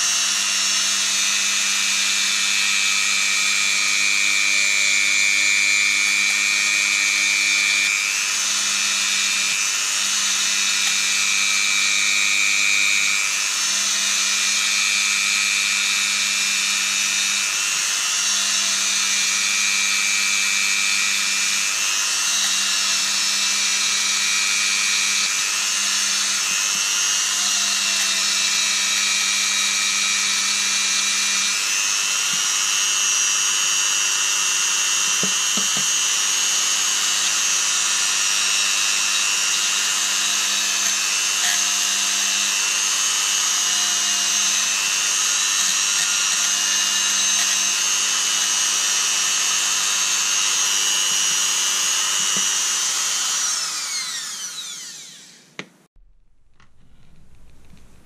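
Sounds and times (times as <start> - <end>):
rotary tool grinding steel: 0.0 - 55.7.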